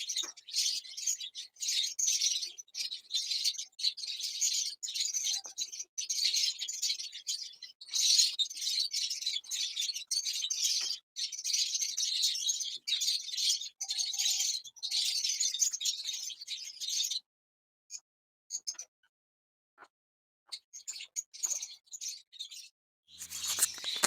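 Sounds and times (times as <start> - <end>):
small birds chirping: 0.0 - 17.3, 17.9 - 19.1, 20.5 - 24.0.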